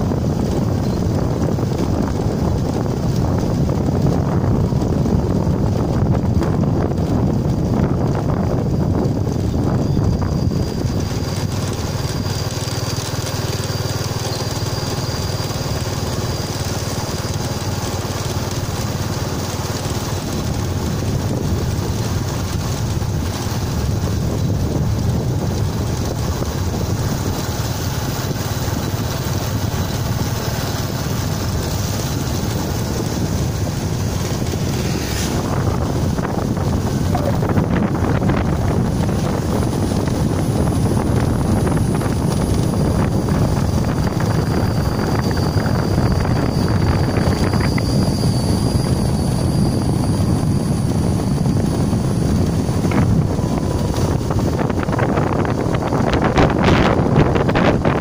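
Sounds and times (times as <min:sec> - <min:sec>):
road and engine rumble: 0:00.0 - 0:58.0
wind buffeting microphone: 0:00.0 - 0:58.0.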